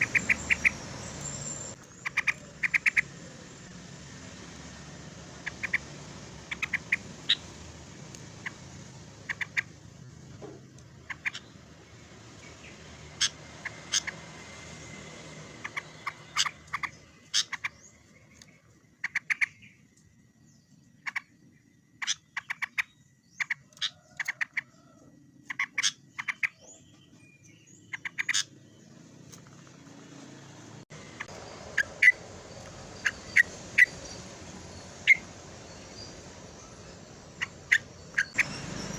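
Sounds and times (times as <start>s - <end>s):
bulbul chattering calls: 0.0s - 3.7s, 5.3s - 7.7s, 8.3s - 9.9s, 10.9s - 14.9s, 15.5s - 19.8s, 20.5s - 24.8s, 25.4s - 28.8s, 31.0s - 38.9s.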